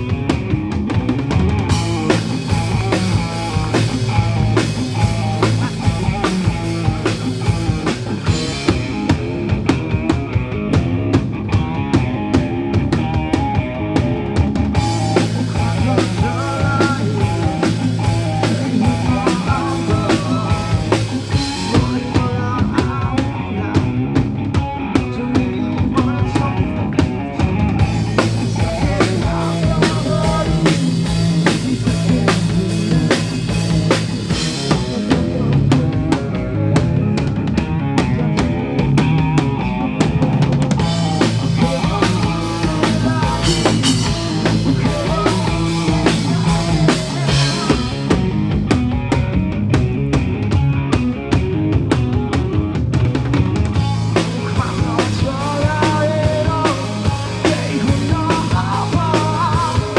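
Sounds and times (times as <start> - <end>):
bass notes: 0.0 - 59.9
rock band playing: 0.0 - 59.9.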